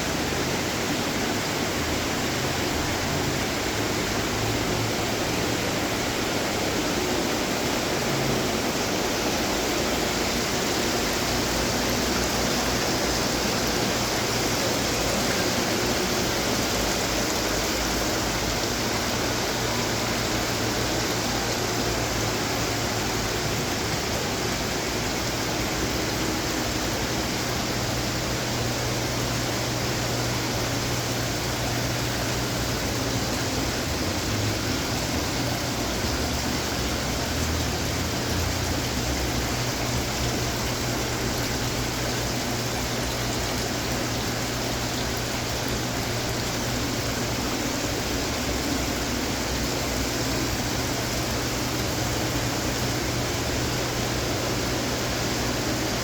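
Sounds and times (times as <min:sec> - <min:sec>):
fountain water splashing: 0:00.0 - 0:56.0.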